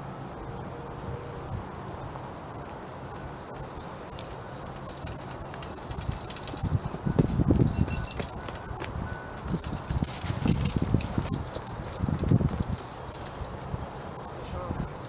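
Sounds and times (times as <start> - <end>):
insect buzzing drone: 2.5 - 15.0
low rumbles: 2.6 - 15.0.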